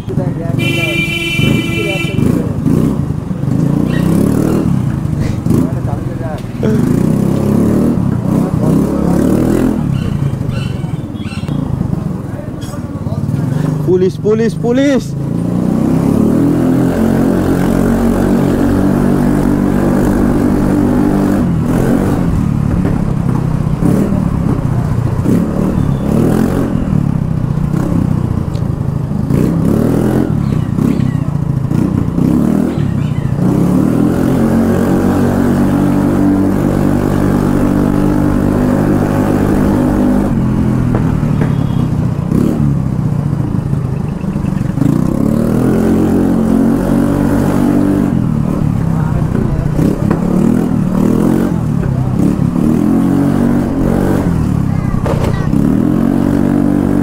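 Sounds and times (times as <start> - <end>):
scooter engine revving: 0.1 - 14.0, 14.8 - 57.0.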